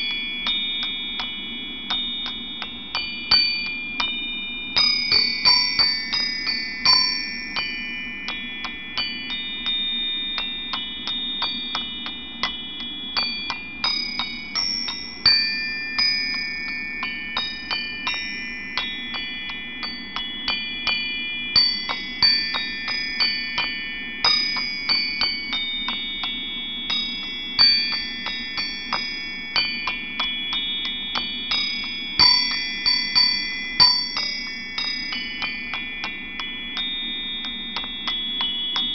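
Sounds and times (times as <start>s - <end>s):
glockenspiel notes ringing: 0.0s - 38.9s.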